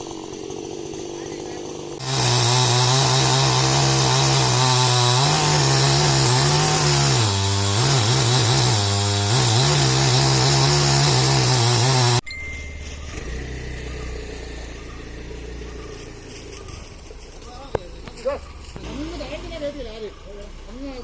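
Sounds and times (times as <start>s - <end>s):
chainsaw sawing through wood: 0.0s - 12.2s, 13.1s - 21.0s.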